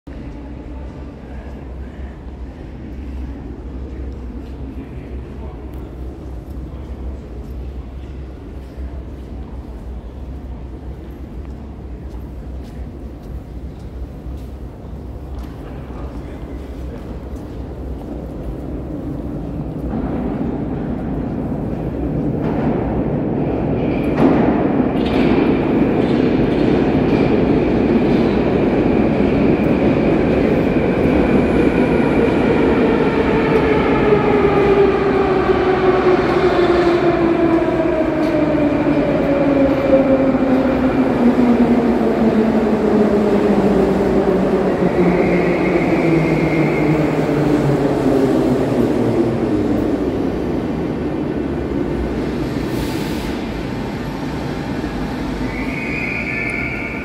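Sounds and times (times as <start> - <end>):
high squeal of train: 0.2 - 57.0.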